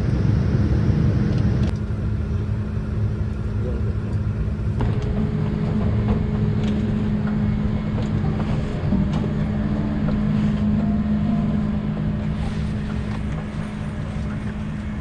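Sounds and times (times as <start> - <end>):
aircraft cabin drone: 0.0 - 15.0.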